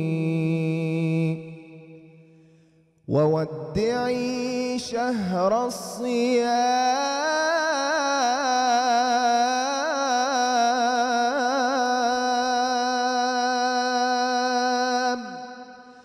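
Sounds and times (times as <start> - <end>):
man singing melisma into microphone: 0.0 - 1.9, 3.1 - 15.6.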